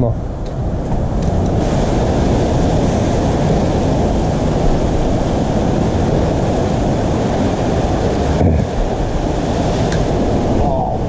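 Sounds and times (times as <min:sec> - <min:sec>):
ocean surf washing against rocks: 0:00.0 - 0:11.0
wind rumble on microphone: 0:00.0 - 0:11.0.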